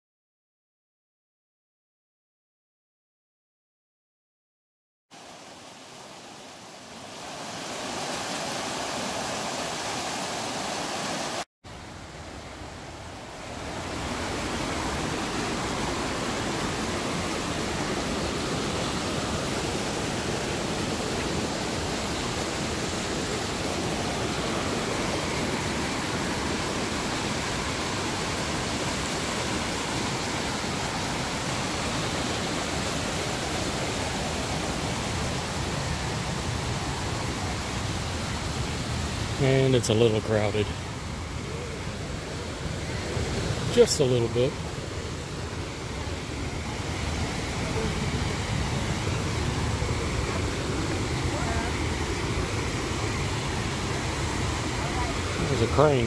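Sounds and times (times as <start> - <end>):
creek water rushing over rapids: 5.2 - 56.0.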